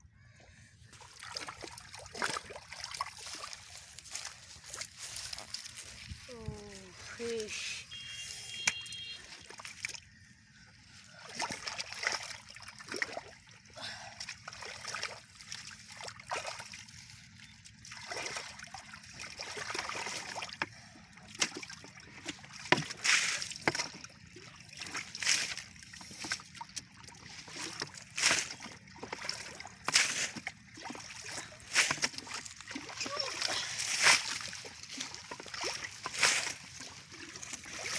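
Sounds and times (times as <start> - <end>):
muddy water splashing: 0.1 - 37.9.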